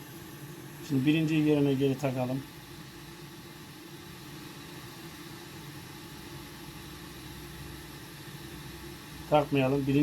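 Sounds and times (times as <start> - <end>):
fan hiss: 0.0 - 10.0
low electrical hum: 0.0 - 10.0.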